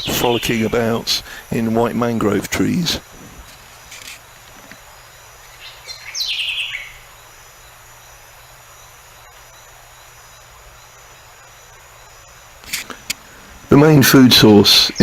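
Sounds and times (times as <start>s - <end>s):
faint high-pitched drone: 0.0s - 15.0s.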